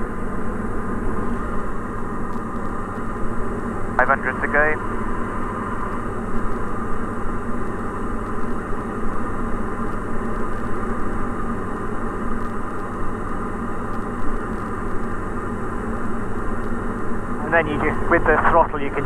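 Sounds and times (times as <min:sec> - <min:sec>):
aircraft engine and propeller droning: 0:00.0 - 0:19.0.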